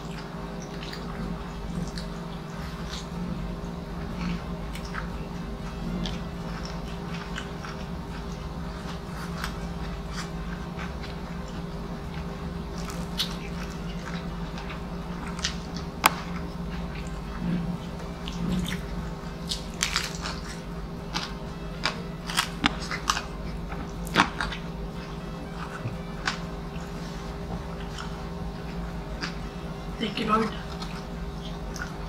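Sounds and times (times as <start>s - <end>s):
crunching crispy pork skin: 0.0s - 29.5s
steady low hum: 0.0s - 32.0s.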